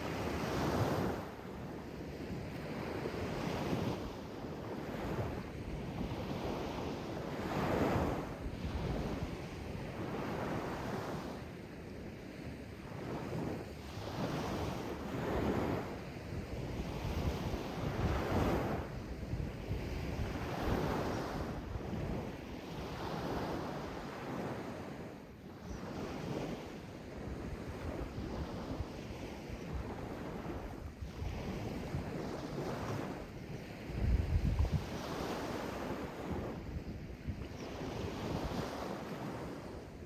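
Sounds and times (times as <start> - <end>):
wind rumbling on microphone: 0.0 - 11.4, 12.9 - 40.0.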